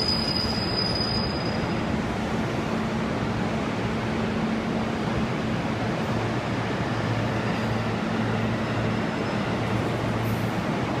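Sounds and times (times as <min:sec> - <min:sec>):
electric train rumbling slowly: 0:00.0 - 0:11.0.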